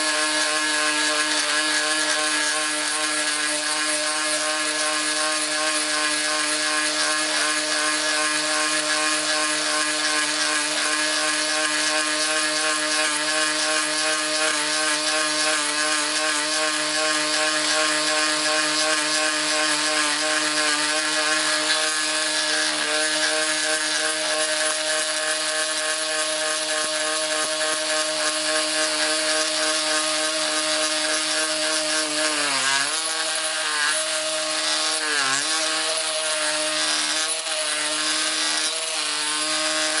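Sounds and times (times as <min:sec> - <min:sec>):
jigsaw sawing whirr: 0:00.0 - 0:40.0.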